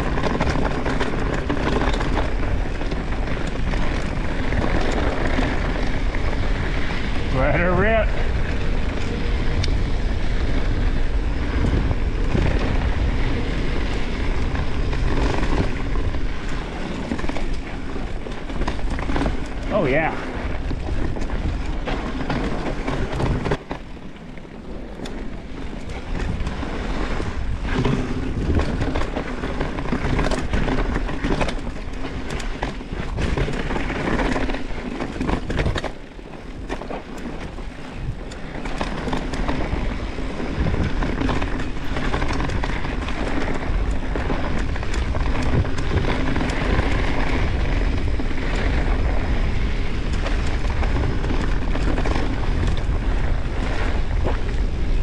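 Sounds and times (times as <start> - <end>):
bike rattling: 0.0 - 55.0
tyres rolling on dirt: 0.0 - 55.0
wind rushing over microphone: 0.0 - 55.0.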